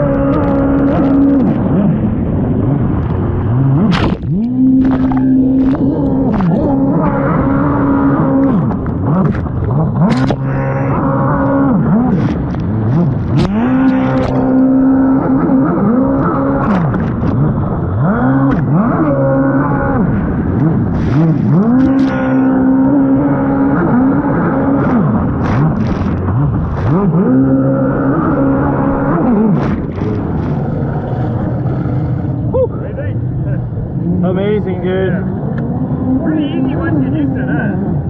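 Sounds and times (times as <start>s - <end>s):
jet ski engine revving: 0.0s - 38.0s.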